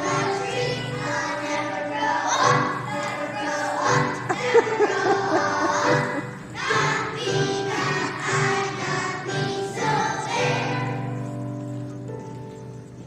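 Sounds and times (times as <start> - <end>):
children singing: 0.0 - 11.5
musical accompaniment: 0.0 - 13.0.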